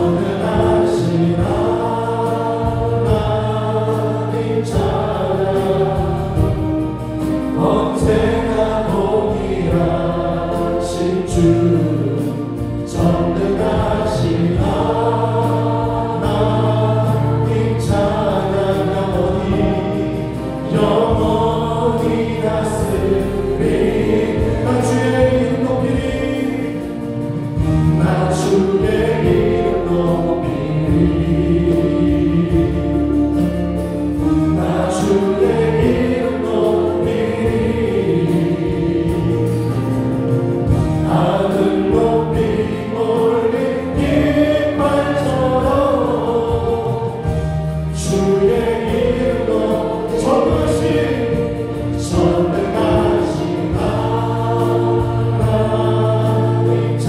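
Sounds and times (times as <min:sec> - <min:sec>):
group of voices singing: 0:00.0 - 0:57.0
worship band playing: 0:00.0 - 0:57.0.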